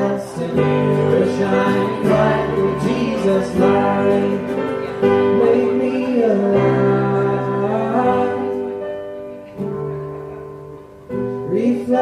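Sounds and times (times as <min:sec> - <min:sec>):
acoustic guitar chords: 0:00.0 - 0:12.0
keyboard chords: 0:00.0 - 0:12.0.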